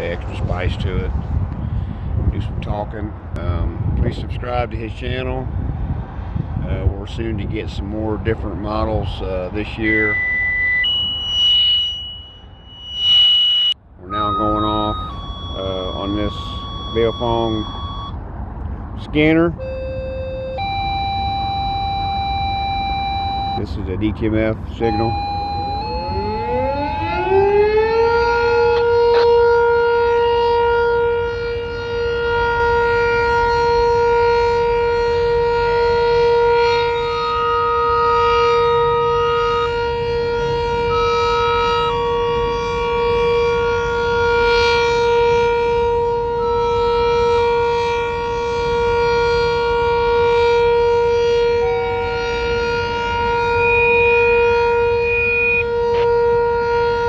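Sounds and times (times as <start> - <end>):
warning siren steady tone: 7.6 - 57.0.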